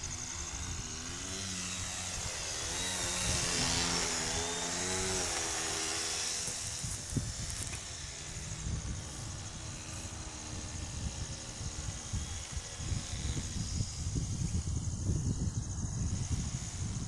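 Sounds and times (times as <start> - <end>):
model plane motor and propeller buzzing: 0.0 - 17.0.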